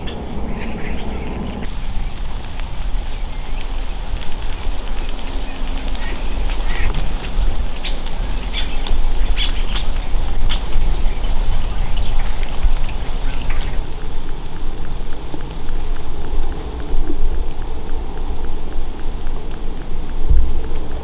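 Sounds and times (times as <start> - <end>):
birds chirping: 0.0 - 21.0
low rumble: 0.0 - 21.0.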